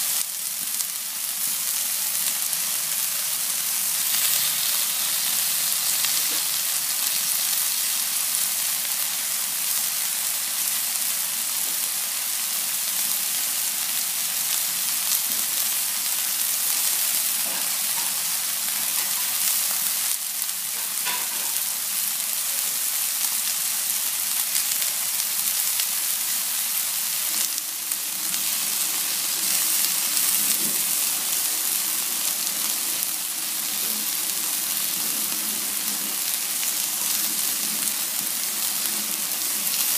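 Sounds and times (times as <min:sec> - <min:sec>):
meat sizzling on grill pan: 0:00.0 - 0:39.9.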